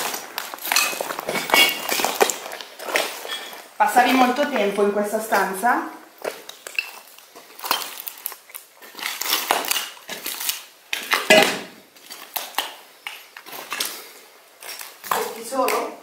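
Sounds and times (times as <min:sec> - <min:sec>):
footsteps crunching through rubble: 0:00.0 - 0:15.9.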